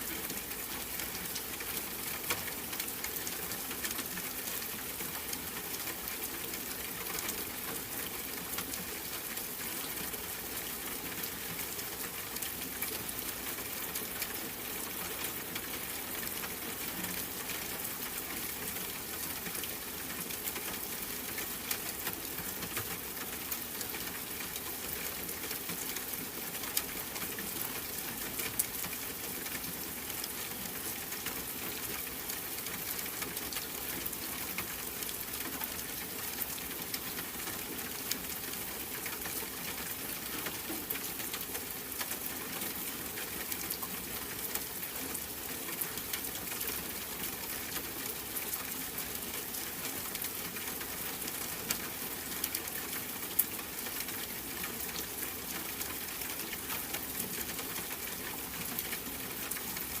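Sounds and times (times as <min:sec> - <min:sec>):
steady rain patter: 0:00.0 - 1:00.0.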